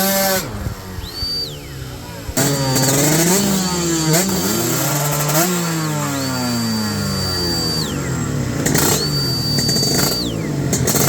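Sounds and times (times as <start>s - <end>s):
motorcycle accelerating through gears: 0.0s - 11.0s.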